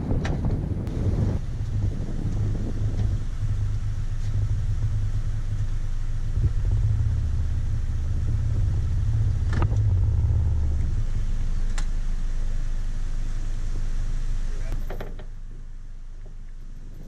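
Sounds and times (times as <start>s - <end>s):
outboard motor running: 0.9s - 15.1s.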